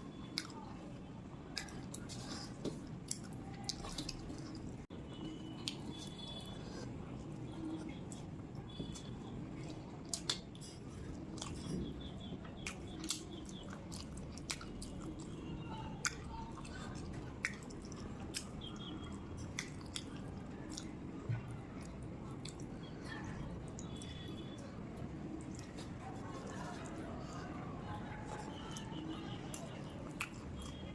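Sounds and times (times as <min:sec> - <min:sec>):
person chewing food: 0:00.2 - 0:00.7, 0:01.4 - 0:30.9.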